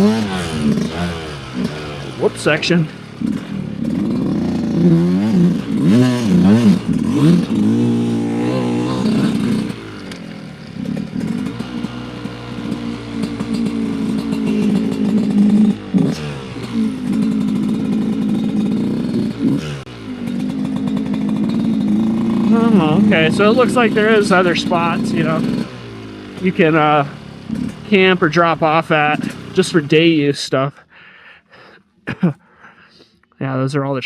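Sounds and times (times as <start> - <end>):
dirt bike engine revving: 0.0 - 30.6.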